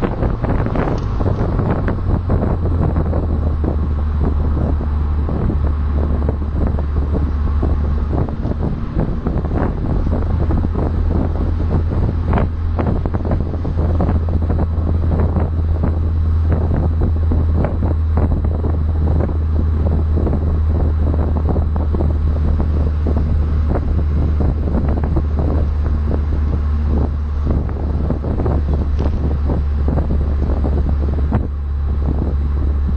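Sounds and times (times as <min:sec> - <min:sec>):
car engine and road drone: 0:00.0 - 0:32.9
wind buffeting microphone: 0:00.0 - 0:32.9.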